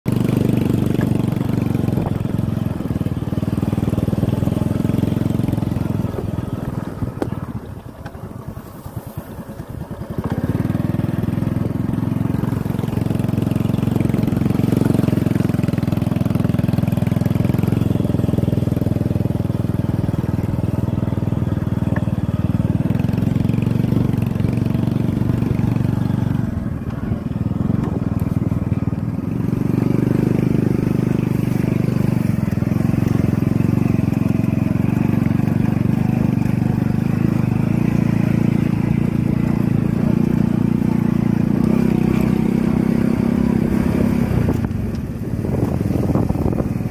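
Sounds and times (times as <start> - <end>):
motorcycle engine running: 0.1 - 46.9.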